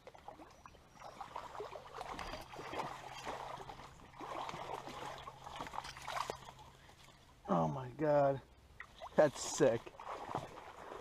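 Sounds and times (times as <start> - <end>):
fish splashing in shallow water: 0.0 - 7.3, 8.8 - 11.0.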